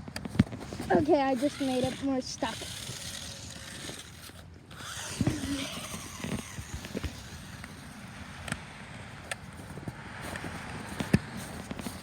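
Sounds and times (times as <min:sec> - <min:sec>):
wheels churning snow: 0:00.0 - 0:12.0
toy car motor whirring: 0:00.2 - 0:12.0.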